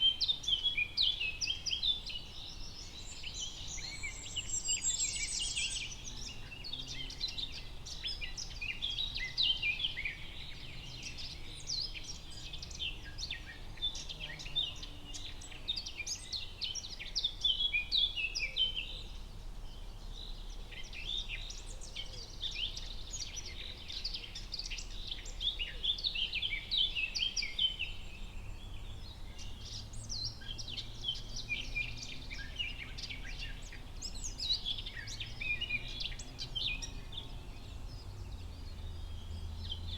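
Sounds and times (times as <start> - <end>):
low steady background noise: 0.0 - 39.9
songbirds chirping: 0.0 - 39.9.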